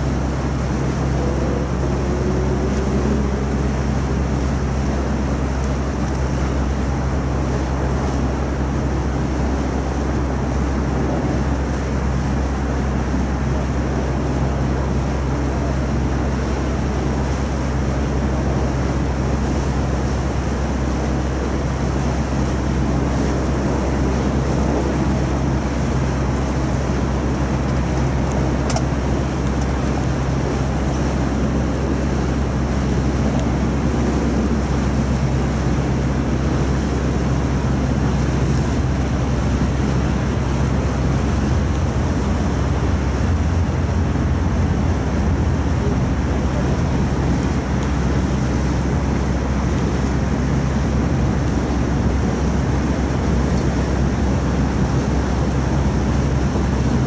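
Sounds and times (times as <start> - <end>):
boat engine humming: 0.0 - 57.0
rushing water: 0.0 - 57.0
wind noise on microphone: 0.0 - 57.0.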